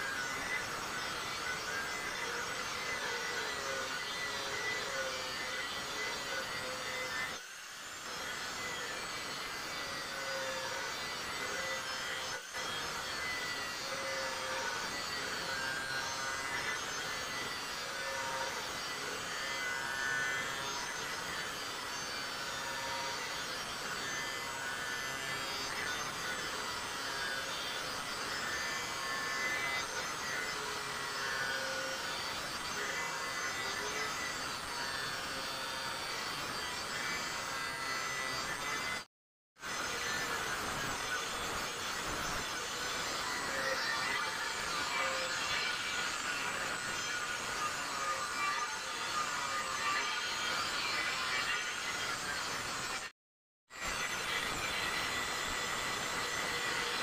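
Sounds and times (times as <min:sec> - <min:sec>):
angle grinder on metal: 0:00.0 - 0:57.0.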